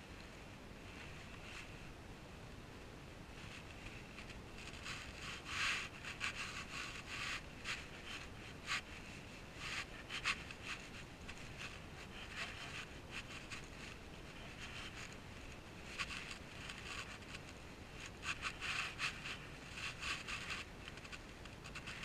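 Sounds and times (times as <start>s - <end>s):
steady hiss: 0.0s - 22.0s
sharp scrapes: 3.4s - 22.0s.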